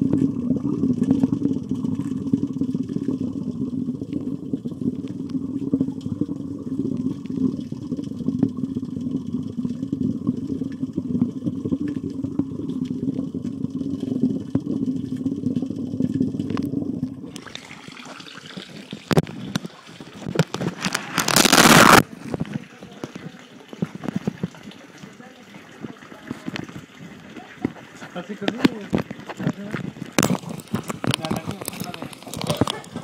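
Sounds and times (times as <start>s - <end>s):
muffled underwater rushing: 0.0s - 33.0s.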